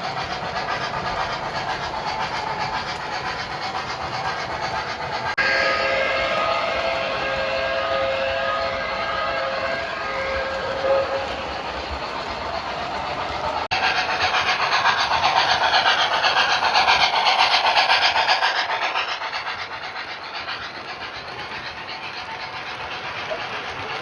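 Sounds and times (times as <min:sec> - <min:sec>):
model train rolling on track: 0:00.0 - 0:24.0.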